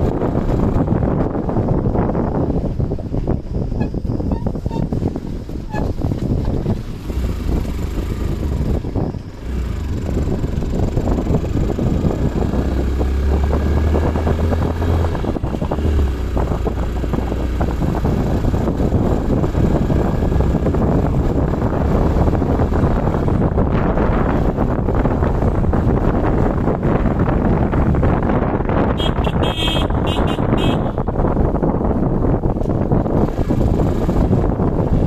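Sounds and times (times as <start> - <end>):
motorcycle engine: 0.0 - 35.0
wind rumble on microphone: 0.0 - 35.0.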